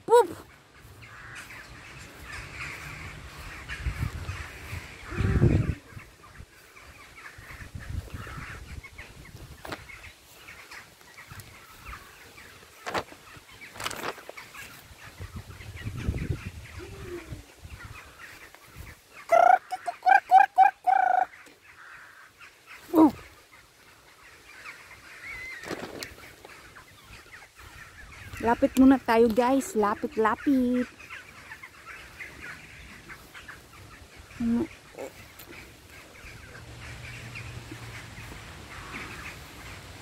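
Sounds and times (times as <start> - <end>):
waterfowl honking: 0.0 - 9.2, 9.8 - 13.7, 17.8 - 40.0.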